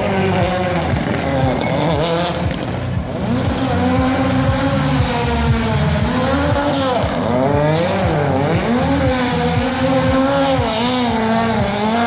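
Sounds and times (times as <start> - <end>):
racing motorcycle engine revving: 0.0 - 12.0.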